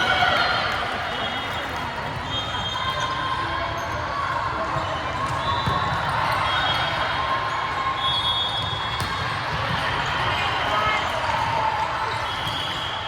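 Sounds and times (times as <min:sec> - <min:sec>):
crowd voices hum: 0:00.0 - 0:13.0.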